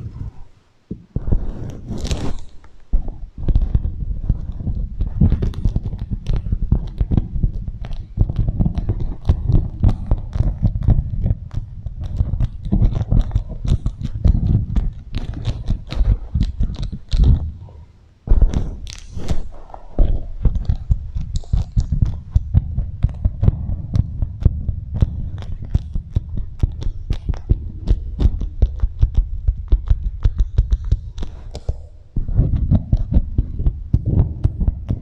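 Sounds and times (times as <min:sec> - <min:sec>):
wax wrap crackling: 0:00.0 - 0:35.0.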